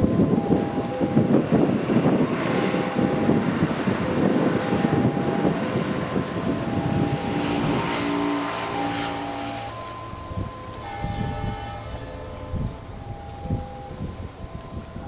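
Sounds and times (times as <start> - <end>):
thin steady tones: 0.0 - 15.0.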